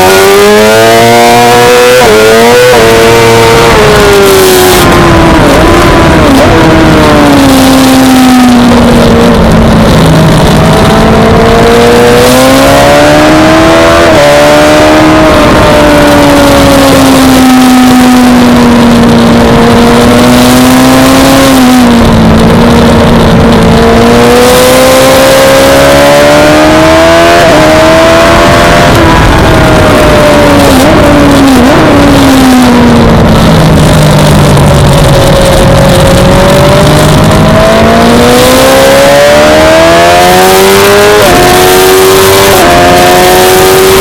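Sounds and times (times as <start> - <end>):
motorcycle engine at high revs: 0.0 - 44.0.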